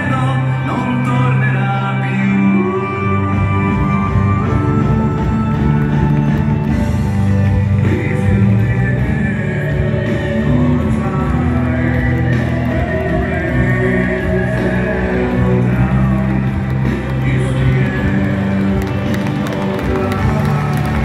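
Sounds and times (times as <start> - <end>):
guitar: 0.0 - 21.0
rock band playing through pa: 0.0 - 21.0.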